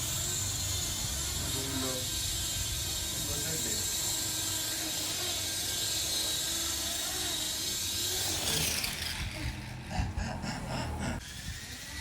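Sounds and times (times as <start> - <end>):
helicopter motor and rotor whine: 0.0 - 12.0.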